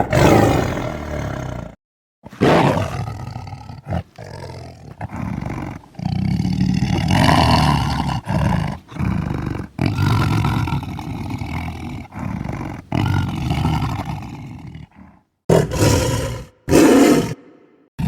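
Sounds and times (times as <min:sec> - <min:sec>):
tiger roaring: 0:00.0 - 0:17.8.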